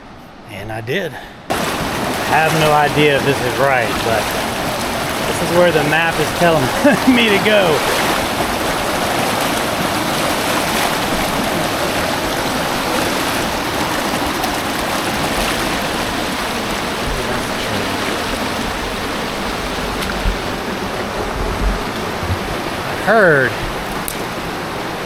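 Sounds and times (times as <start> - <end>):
creek water rushing over rocks: 1.5 - 25.0.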